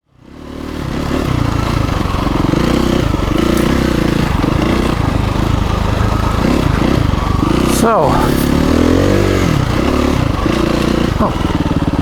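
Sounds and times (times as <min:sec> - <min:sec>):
dirt bike engine running: 0:00.1 - 0:12.0.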